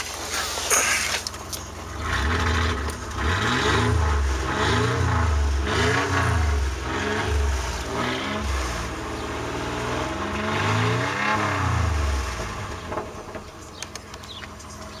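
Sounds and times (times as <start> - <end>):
car engine revving and idling: 0.8 - 15.0.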